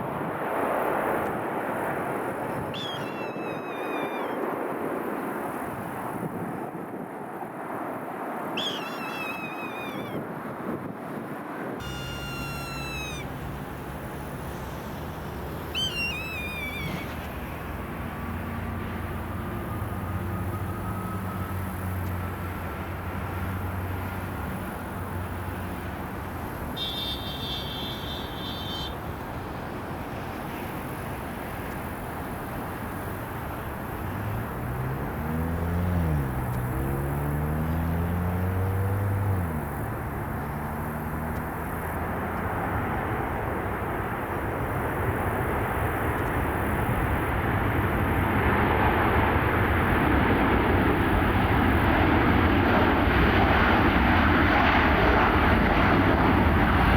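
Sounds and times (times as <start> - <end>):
jet engines roaring: 0.0 - 56.9
pitched engine hum: 8.1 - 10.9, 11.6 - 56.9.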